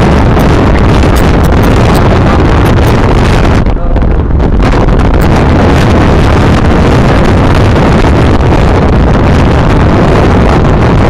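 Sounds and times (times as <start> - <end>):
car road and engine noise: 0.0 - 11.0
wind rushing through car window: 0.0 - 11.0.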